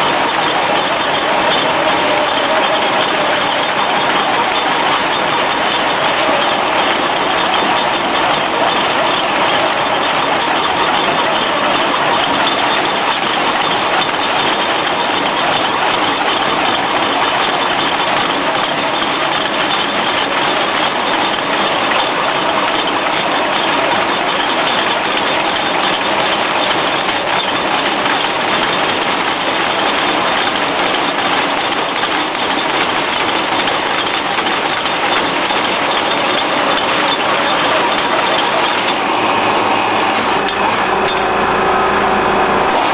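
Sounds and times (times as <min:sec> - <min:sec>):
hydraulic breaker pounding brick: 0:00.0 - 0:41.4, 0:42.6 - 0:42.9
excavator engine running: 0:00.0 - 0:42.9.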